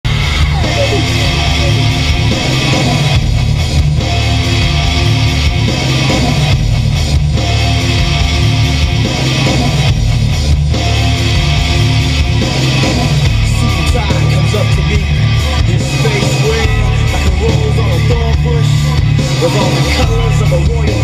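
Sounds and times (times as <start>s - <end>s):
loud rock music with guitar: 0.0s - 21.0s.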